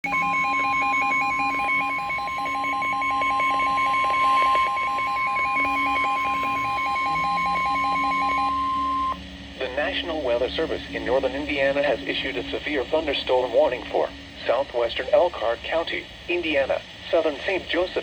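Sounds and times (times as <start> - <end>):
rapid beeping: 0.0 - 14.6
steady warning alarm tone: 0.0 - 15.1.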